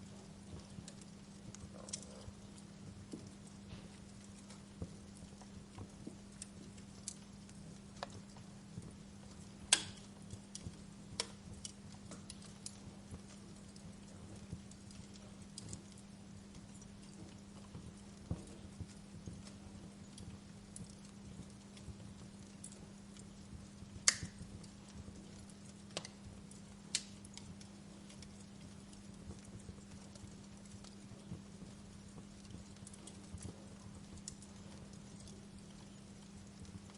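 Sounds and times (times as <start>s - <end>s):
steady low hum: 0.0s - 36.9s
wood fire crackling and popping: 0.0s - 36.9s.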